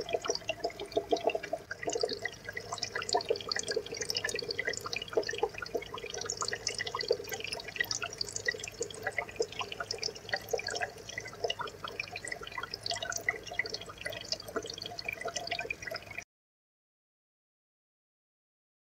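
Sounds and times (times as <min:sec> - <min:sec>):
aquarium water bubbling: 0:00.0 - 0:16.2.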